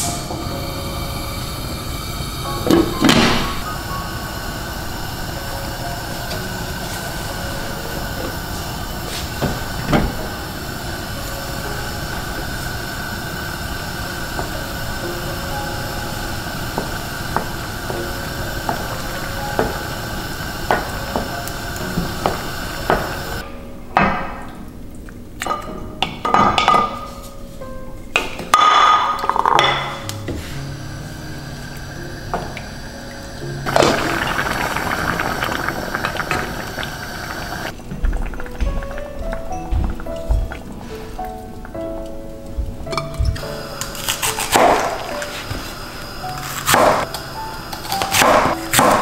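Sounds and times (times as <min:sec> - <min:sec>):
broth boiling in saucepan: 0:00.0 - 0:27.4, 0:28.1 - 0:49.0.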